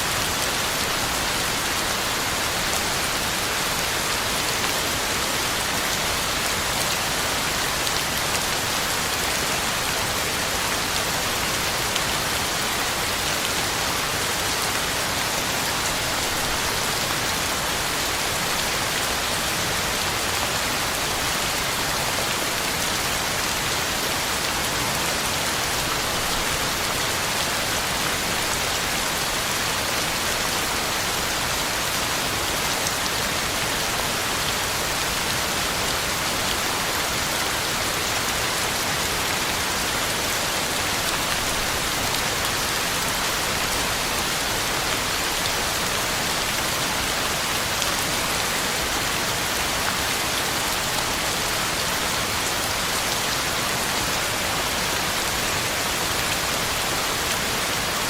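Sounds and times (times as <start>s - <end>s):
heavy rain on ground and leaves: 0.0s - 58.0s.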